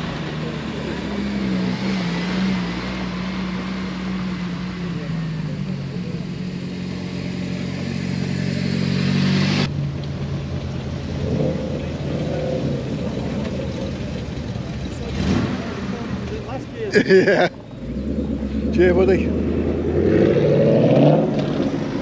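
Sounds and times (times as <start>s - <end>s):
car engine running: 0.0s - 22.0s
rough mixed rumble: 0.0s - 22.0s.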